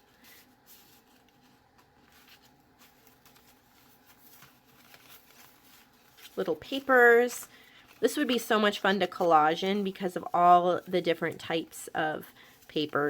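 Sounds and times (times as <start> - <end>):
paper rustling: 0.0 - 13.0.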